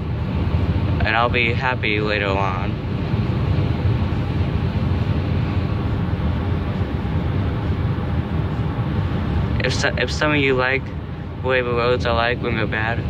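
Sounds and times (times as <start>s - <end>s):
car engine drone: 0.0s - 13.0s
road and tyre noise: 0.0s - 13.0s.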